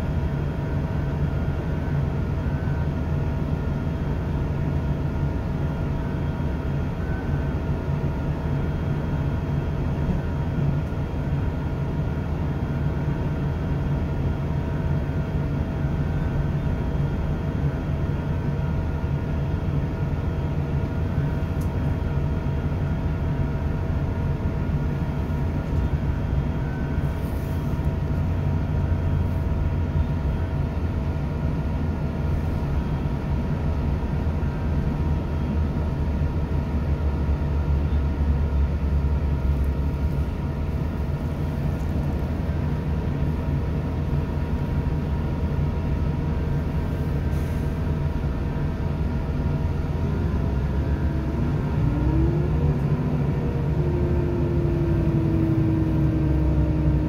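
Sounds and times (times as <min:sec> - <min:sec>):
train diesel engine drone: 0:00.0 - 0:57.0
wheels rumbling on track: 0:00.0 - 0:57.0.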